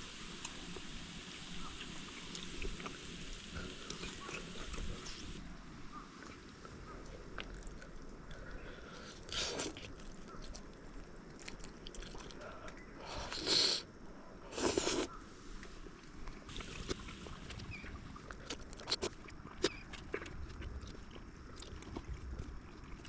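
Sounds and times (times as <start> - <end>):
crunchy chewing: 2.3 - 13.9, 14.5 - 23.0.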